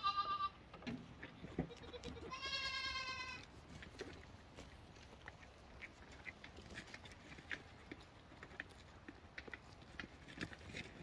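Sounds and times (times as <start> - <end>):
goats tearing and chewing grass: 0.1 - 11.0.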